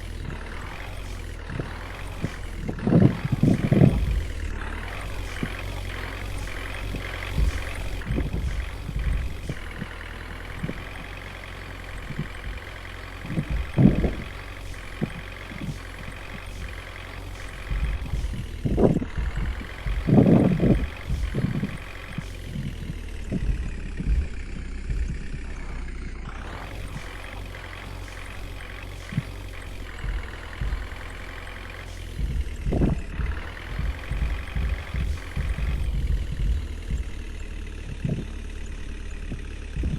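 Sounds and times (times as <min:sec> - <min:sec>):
dull thumps: 0:00.0 - 0:39.9
heavy vehicle engine revving: 0:00.0 - 0:39.9
low rumble: 0:00.0 - 0:39.9.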